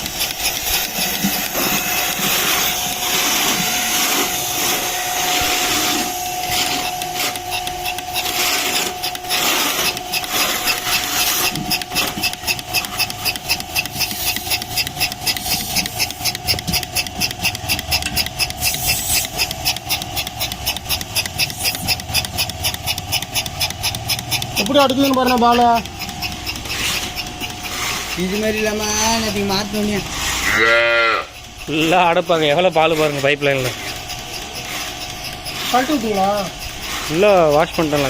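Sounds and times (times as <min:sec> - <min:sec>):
air hissing: 0:00.0 - 0:30.5
milking pulsator pulsing: 0:00.0 - 0:38.0
vacuum pump humming: 0:00.0 - 0:38.0.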